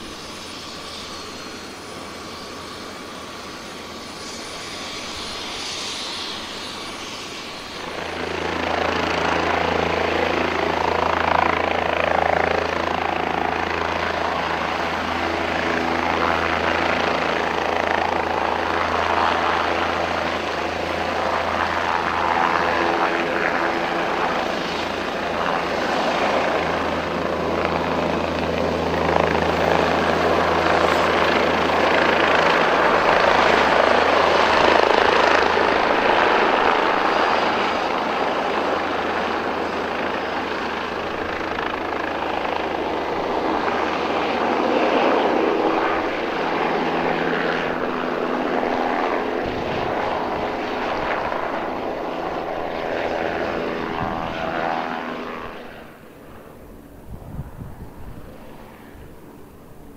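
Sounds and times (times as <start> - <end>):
helicopter rotor beat: 0.0 - 59.9.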